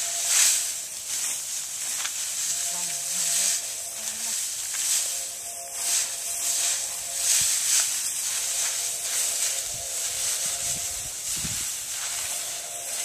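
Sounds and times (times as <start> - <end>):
straw rustling under feet: 0.0 - 13.0.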